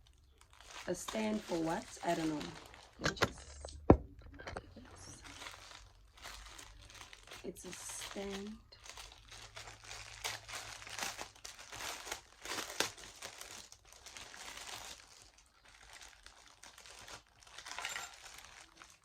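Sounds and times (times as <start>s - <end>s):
packaging crinkling and rustling: 0.0s - 3.8s, 4.4s - 19.0s.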